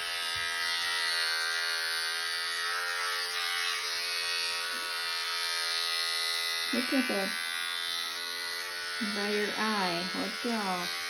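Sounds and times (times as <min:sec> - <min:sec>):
electric clippers buzzing: 0:00.0 - 0:11.0.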